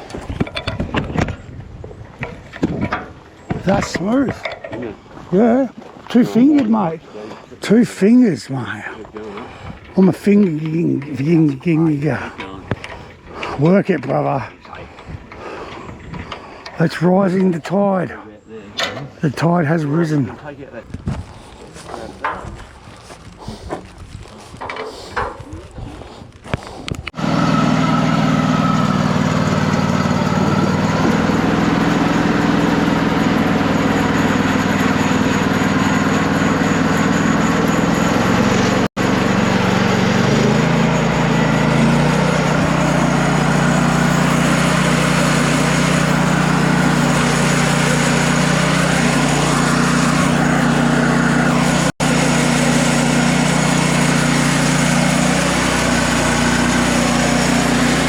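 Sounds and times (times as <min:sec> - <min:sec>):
sawmill engine running: 0:03.2 - 0:18.2, 0:18.8 - 0:20.6, 0:26.6 - 0:58.0.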